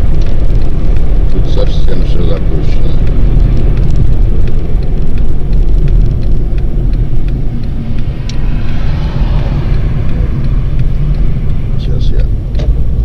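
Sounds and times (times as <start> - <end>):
car driving rumble from inside: 0.0 - 13.0.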